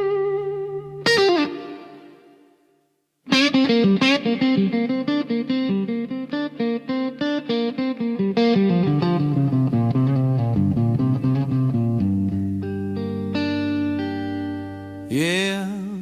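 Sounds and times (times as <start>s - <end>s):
picked guitar pattern: 0.0s - 2.5s, 3.2s - 16.0s.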